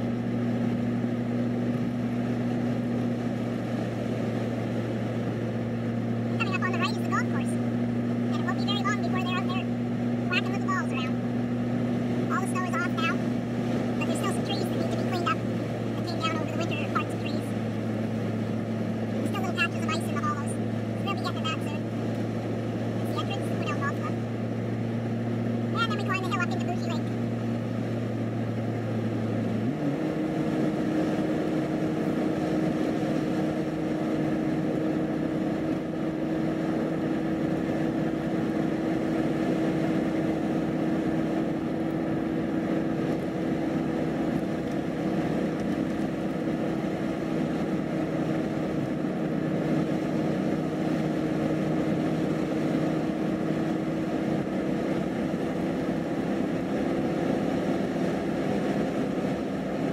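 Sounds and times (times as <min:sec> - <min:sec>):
car engine and tyre noise: 0:00.0 - 0:59.9
steady higher engine tone: 0:00.0 - 0:59.9.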